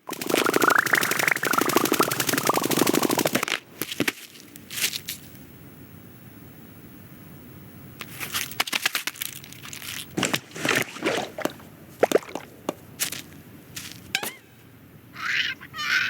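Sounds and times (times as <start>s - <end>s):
low steady background noise: 1.1s - 16.0s.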